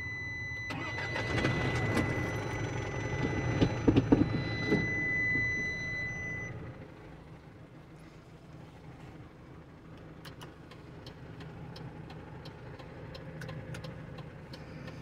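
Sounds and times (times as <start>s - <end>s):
diesel engine cranking and starting: 0.0s - 15.0s.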